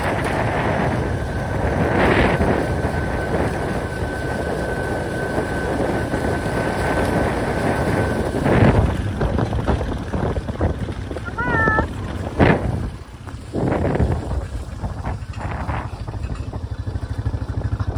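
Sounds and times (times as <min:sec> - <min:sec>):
steady high whine: 0:00.0 - 0:17.9
vehicle driving across grass: 0:00.0 - 0:17.9
wind buffeting microphone: 0:00.0 - 0:17.9.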